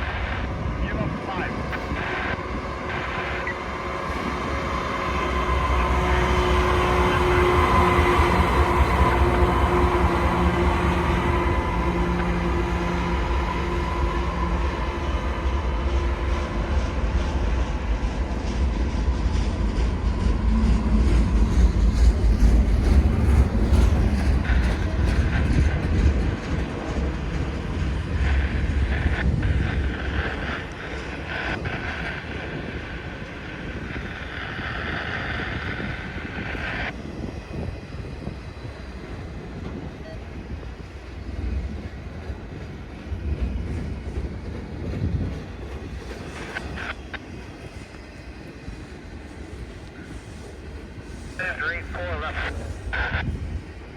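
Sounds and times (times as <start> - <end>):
freight train rumbling past: 0.0 - 53.9
train wheels clicking on rails: 1.9 - 51.4.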